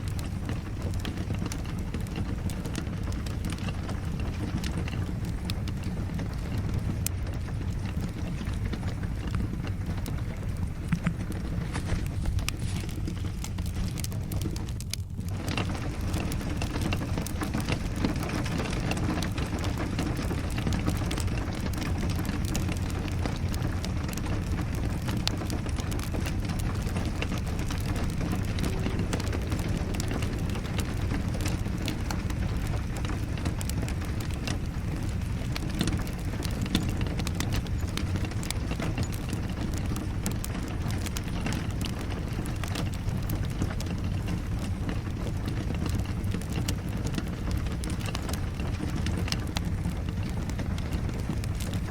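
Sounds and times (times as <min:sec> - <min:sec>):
steady rain: 0:00.0 - 0:51.9
wood fire crackling: 0:00.0 - 0:51.9.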